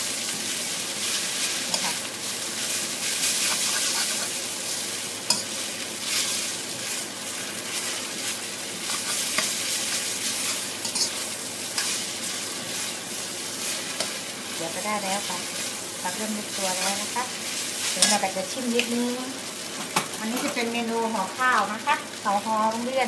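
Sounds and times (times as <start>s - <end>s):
vegetables sizzling in a wok: 0.0s - 23.0s
spatula scraping wok: 0.6s - 20.7s.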